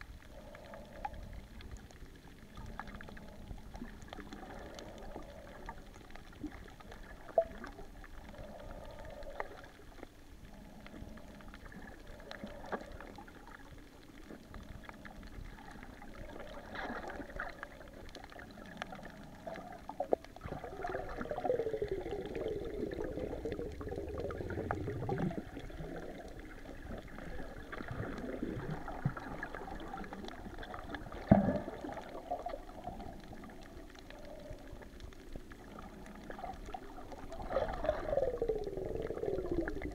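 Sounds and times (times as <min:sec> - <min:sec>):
water sloshing and gurgling underwater: 0:00.0 - 0:39.9.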